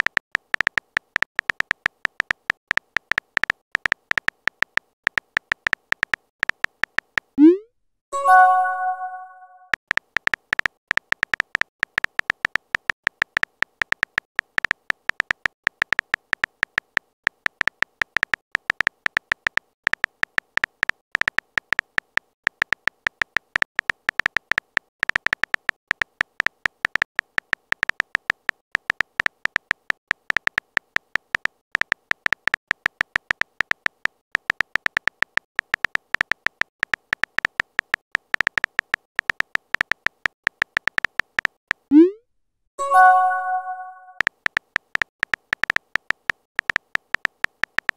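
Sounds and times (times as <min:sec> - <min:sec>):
phone keyboard key clicks: 0:00.0 - 0:07.3, 0:09.9 - 0:41.9, 0:44.2 - 0:47.9.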